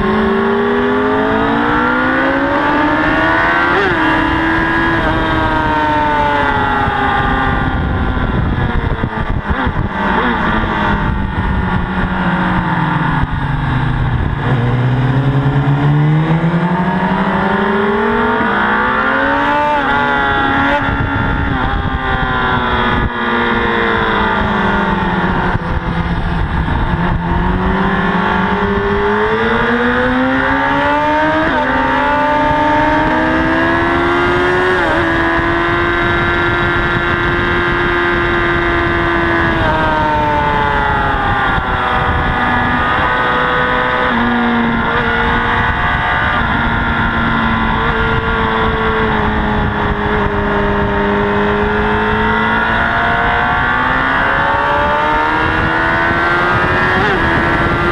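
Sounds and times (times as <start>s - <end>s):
motorcycle engine revving: 0.0s - 57.9s
wind rush: 0.0s - 57.9s.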